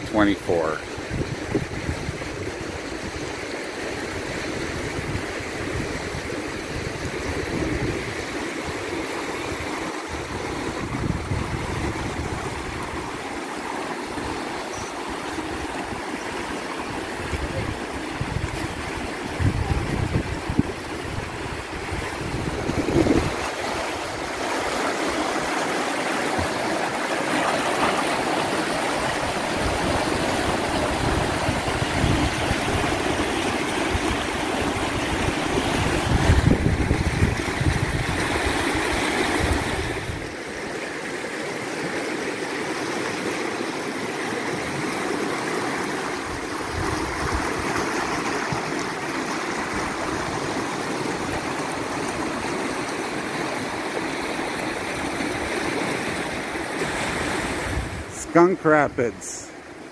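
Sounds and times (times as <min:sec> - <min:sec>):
river rapids rushing: 0:02.0 - 0:59.9.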